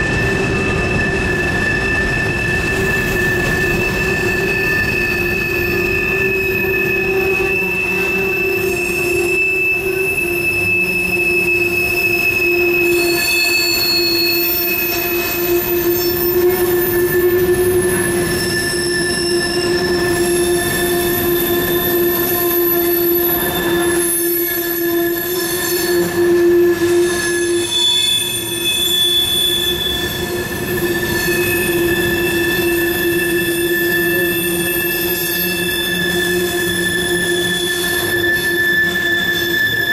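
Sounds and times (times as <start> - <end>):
train wheels squealing: 0.0 - 39.9.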